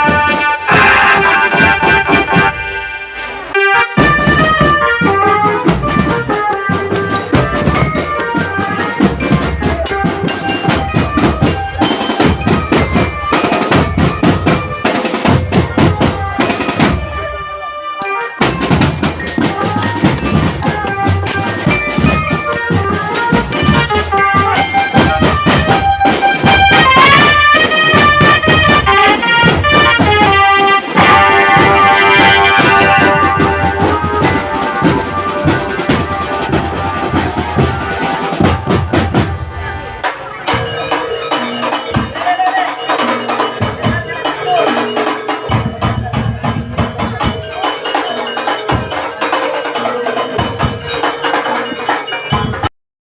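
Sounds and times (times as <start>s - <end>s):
marching drums: 0.0s - 52.7s
mallet bells melody: 4.0s - 52.7s.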